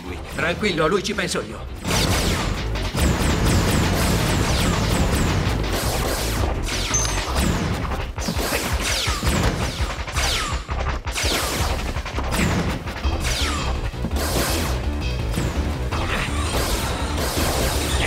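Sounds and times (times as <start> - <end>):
action background music: 0.0 - 18.0.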